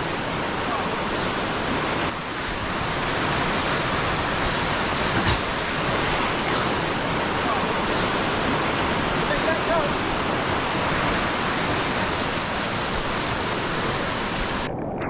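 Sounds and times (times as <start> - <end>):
whitewater rapids rushing: 0.0 - 14.7.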